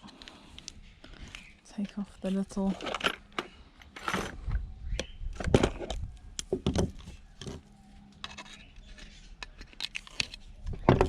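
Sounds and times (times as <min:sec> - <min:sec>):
hands and tools handling parts: 0:00.0 - 0:11.0.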